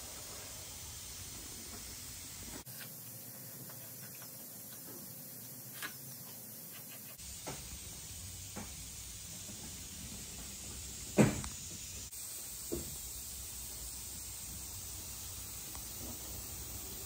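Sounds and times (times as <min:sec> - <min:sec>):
shop background hiss: 0:00.0 - 0:17.0.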